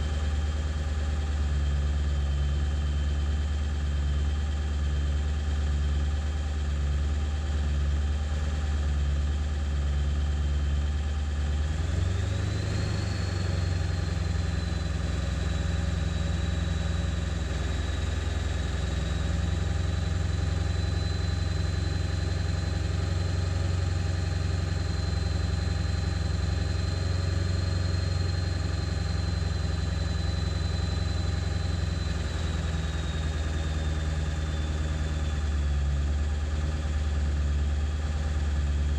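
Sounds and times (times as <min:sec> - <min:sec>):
diesel engine idling rough: 0:00.0 - 0:38.9.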